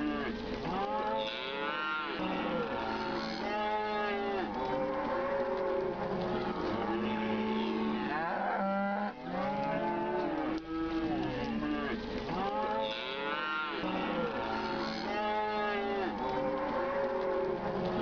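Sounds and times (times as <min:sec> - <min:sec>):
cattle mooing: 0:00.0 - 0:17.6.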